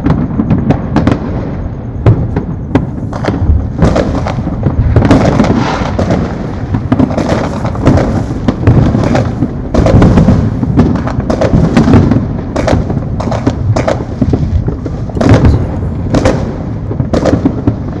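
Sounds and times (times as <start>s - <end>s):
fireworks bangs and pops: 0.0s - 18.0s
rumble of fireworks booms: 0.0s - 18.0s.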